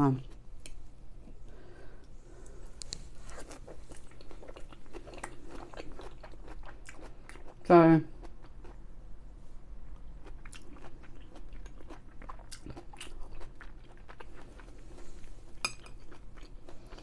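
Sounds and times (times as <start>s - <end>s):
person chewing food: 0.2s - 8.8s, 9.8s - 17.0s.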